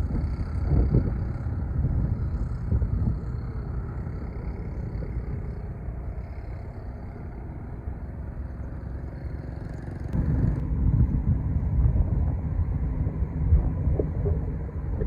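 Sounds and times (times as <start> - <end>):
ship engine rumble: 0.0 - 15.0.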